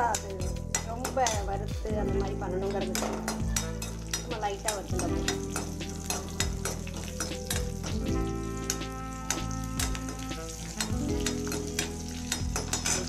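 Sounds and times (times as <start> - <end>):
metal spoon scraping a pan: 0.0 - 1.5, 2.6 - 13.0
spices sizzling in oil: 0.0 - 13.0.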